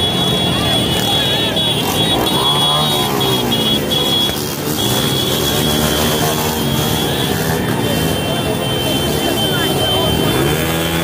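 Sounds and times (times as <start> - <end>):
dense street crowd: 0.0 - 11.0
motorcycle engines: 0.0 - 11.0.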